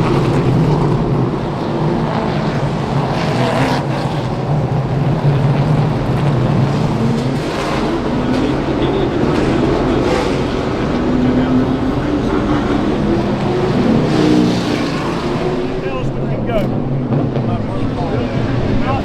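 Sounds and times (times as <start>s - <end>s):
race car engines rumbling: 0.0s - 19.0s.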